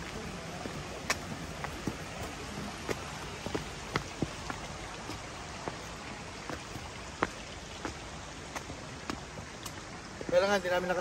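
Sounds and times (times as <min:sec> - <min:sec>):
footsteps on rock: 0:00.0 - 0:10.5.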